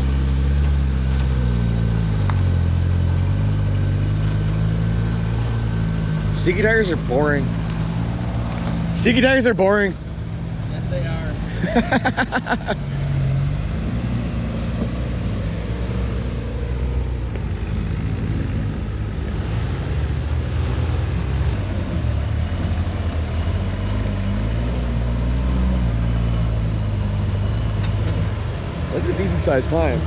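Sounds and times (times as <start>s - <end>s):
off-road engine working under load: 0.0s - 30.0s.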